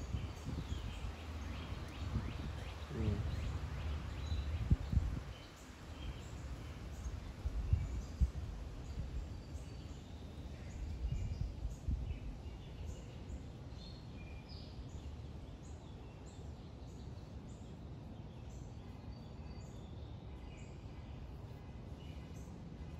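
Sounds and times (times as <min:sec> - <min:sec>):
small birds chirping: 0:00.0 - 0:22.6
low rumble of background noise: 0:00.0 - 0:22.9.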